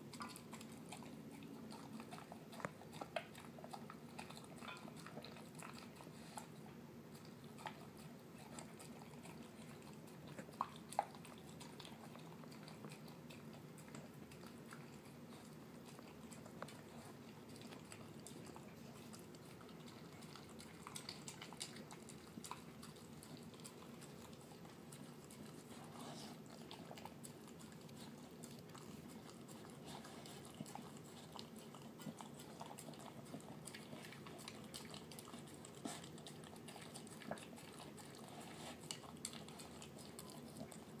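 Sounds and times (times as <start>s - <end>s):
dog chewing and licking: 0.0s - 41.0s.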